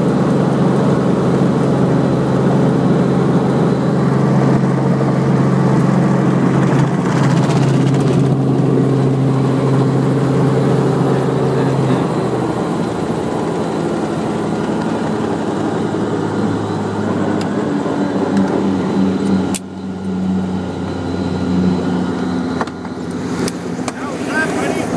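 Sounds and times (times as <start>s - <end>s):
helicopter drone: 0.0s - 24.9s.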